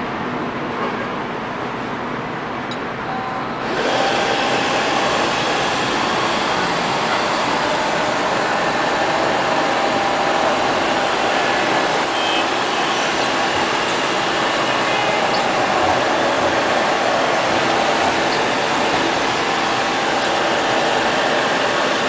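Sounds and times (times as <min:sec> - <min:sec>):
robot vacuum running: 0:03.6 - 0:22.0.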